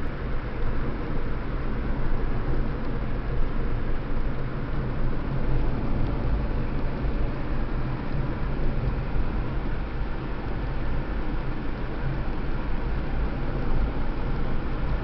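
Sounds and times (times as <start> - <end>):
car road and engine noise inside: 0.0 - 15.0.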